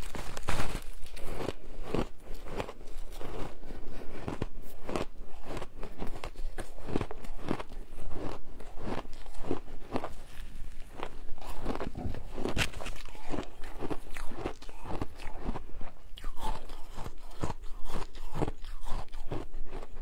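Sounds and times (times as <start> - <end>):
ice crunching when chewed: 0.0 - 20.0.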